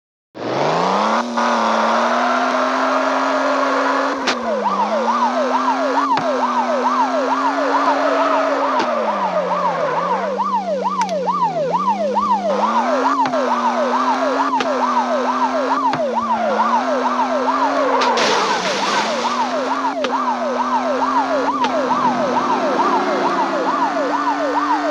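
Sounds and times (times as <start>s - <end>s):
steady engine hum: 0.4s - 24.9s
police siren yelping: 0.5s - 24.9s.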